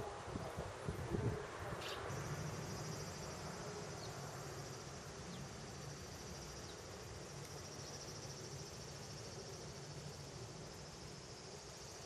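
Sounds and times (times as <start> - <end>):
insect high-pitched trill: 1.8 - 12.0.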